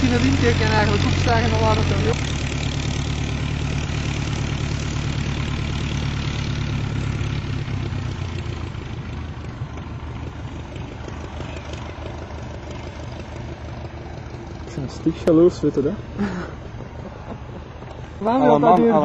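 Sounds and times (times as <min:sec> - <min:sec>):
propeller engine running: 0:00.0 - 0:19.0.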